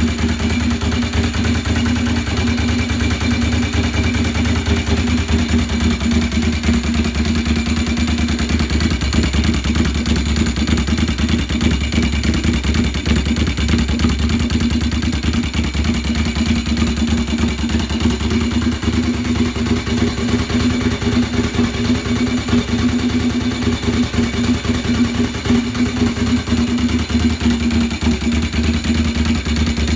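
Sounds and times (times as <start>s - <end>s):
motorcycle engine idling: 0.0s - 29.9s.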